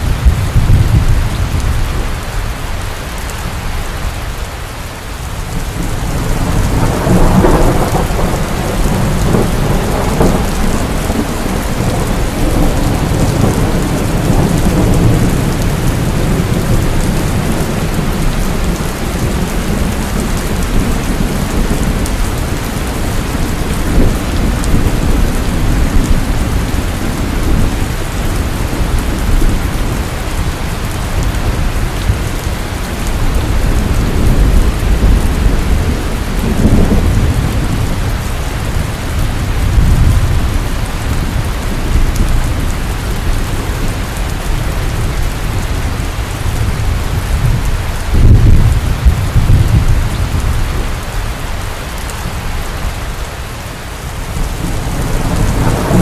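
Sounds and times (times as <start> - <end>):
rolling rumble of thunder: 0.0 - 2.4, 5.3 - 56.0
heavy rain pouring: 0.0 - 56.0.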